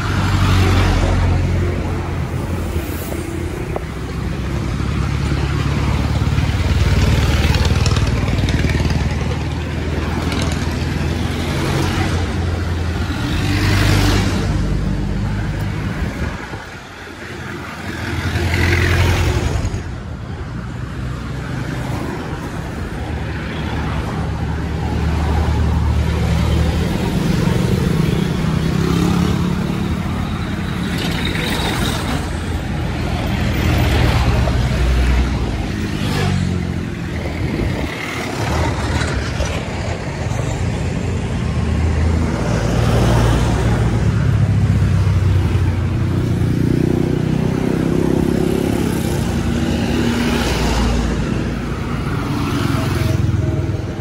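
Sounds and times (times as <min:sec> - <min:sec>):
vehicles passing by: 0:00.0 - 0:54.0.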